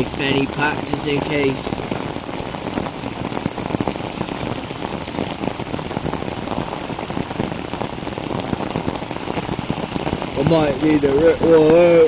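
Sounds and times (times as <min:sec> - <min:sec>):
steady rain patter: 0:00.0 - 0:12.0.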